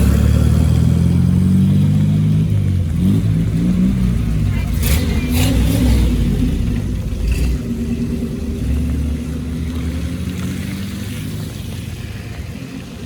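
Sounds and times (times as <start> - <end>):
car engines driving past slowly: 0.0 - 13.0.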